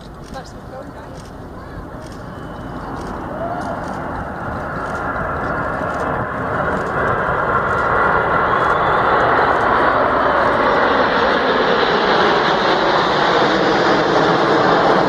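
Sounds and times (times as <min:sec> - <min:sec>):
jet roar: 0:00.0 - 0:15.0.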